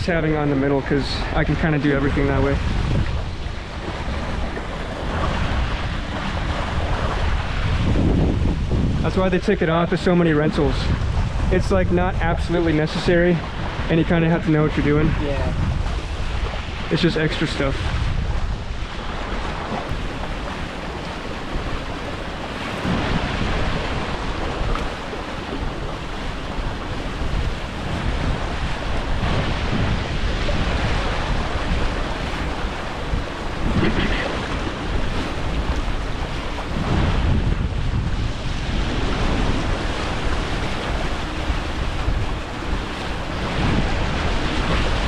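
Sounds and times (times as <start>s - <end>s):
water rushing past hulls: 0.0s - 45.0s
wind blasting microphone: 0.0s - 45.0s.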